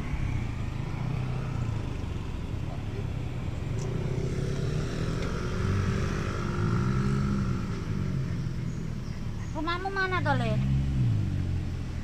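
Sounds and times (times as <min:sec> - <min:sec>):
traffic engine rumble: 0:00.0 - 0:12.0
vehicle passing close by: 0:00.0 - 0:12.0.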